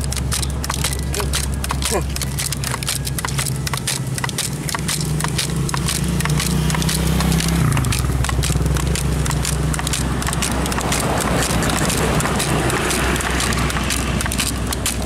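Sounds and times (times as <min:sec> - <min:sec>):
hand pump clicks and knocks: 0:00.0 - 0:15.0
low engine hum: 0:00.0 - 0:15.0.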